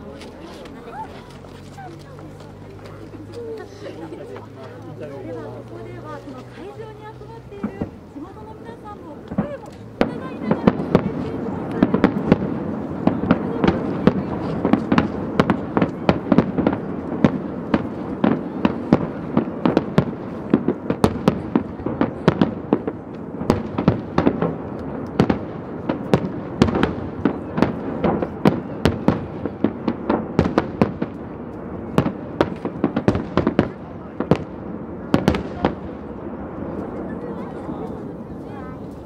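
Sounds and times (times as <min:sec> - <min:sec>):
fireworks cracks and bangs: 0:00.0 - 0:39.0.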